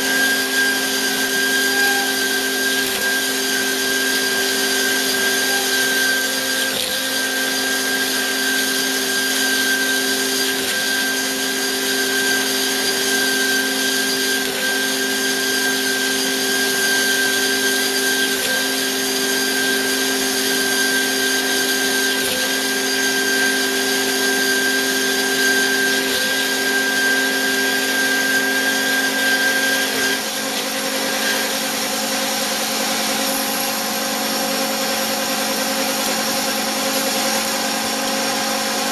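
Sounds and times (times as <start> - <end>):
bandsaw whining: 0.0 - 38.9.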